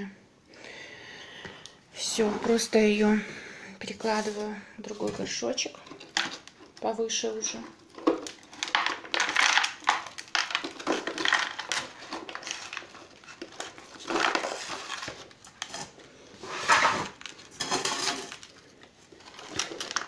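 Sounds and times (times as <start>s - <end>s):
plastic pot crinkling and scraping: 2.0s - 3.1s, 3.8s - 20.0s.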